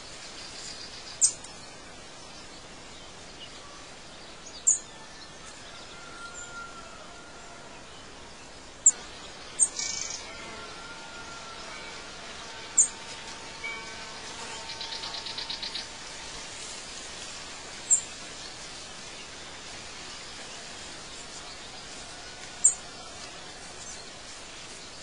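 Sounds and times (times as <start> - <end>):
steady soft hiss: 0.0 - 25.0.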